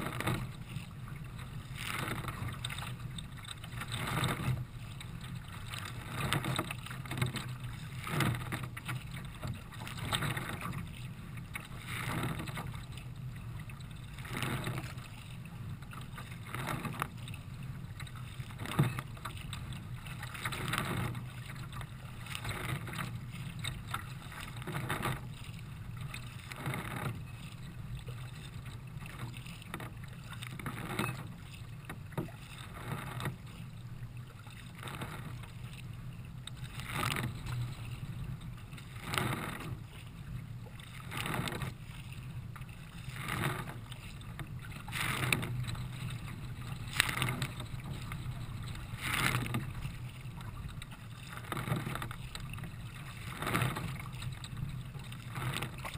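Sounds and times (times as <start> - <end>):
paddle splashes: 0.0 - 55.9
water rushing along hull: 0.0 - 55.9.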